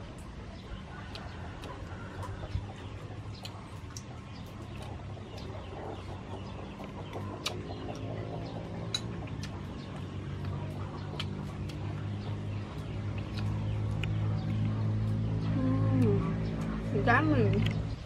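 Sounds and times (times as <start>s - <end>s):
chickens clucking: 0.0s - 18.0s
low background hum: 0.0s - 18.0s.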